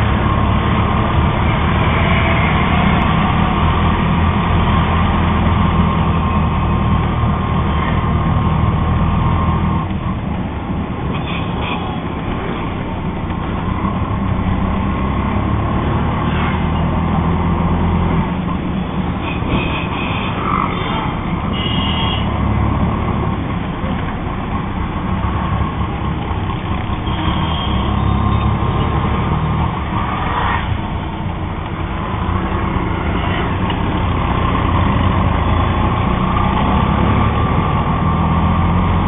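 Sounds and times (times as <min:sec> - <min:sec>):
street noise: 0:00.0 - 0:39.0.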